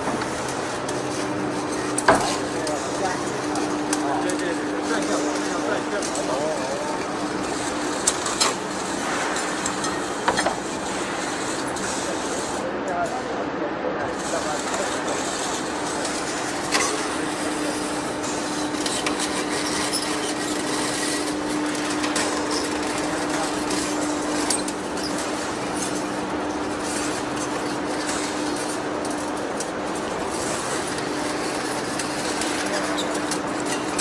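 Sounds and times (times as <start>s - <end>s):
machinery clicks and knocks: 0.0s - 13.3s, 14.2s - 34.0s
machinery humming: 0.0s - 34.0s.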